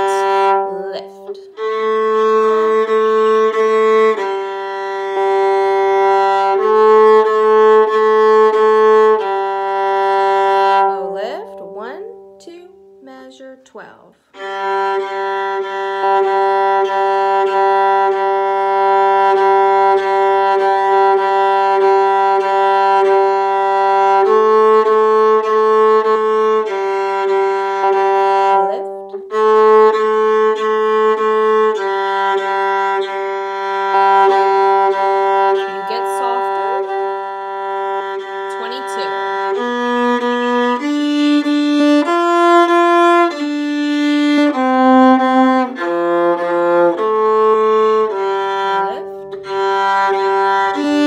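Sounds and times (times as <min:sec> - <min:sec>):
viola long bowed notes: 0:00.0 - 0:51.0.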